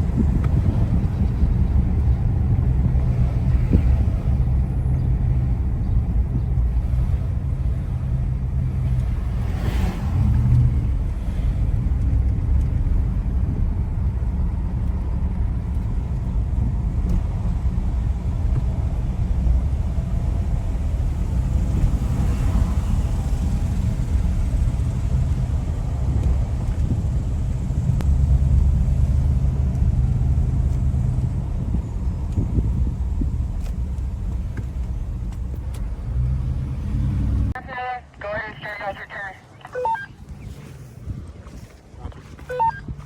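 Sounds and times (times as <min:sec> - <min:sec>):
vehicle motor rumbling: 0:00.0 - 0:43.0.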